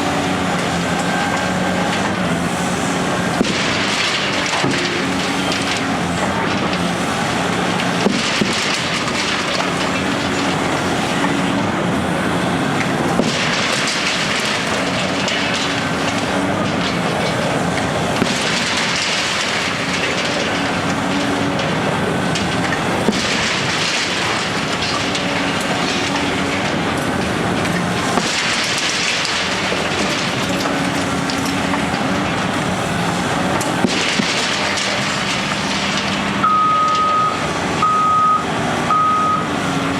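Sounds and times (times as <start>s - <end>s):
demolition machinery rumbling: 0.0s - 39.9s
engine hum: 0.0s - 39.9s.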